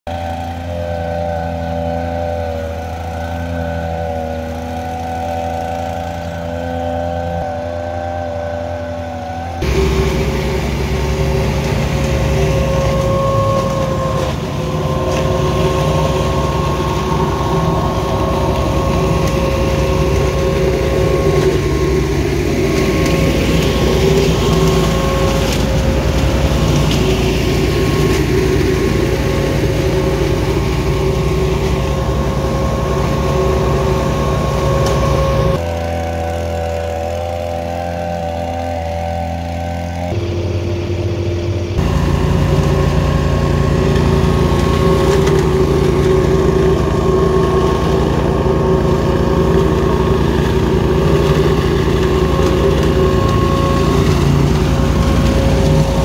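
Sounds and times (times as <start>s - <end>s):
leaf blower engine running: 0.1s - 56.0s
petrol leaf vacuum running: 0.1s - 56.0s
hose sucking up leaves: 9.6s - 40.2s, 41.8s - 56.0s.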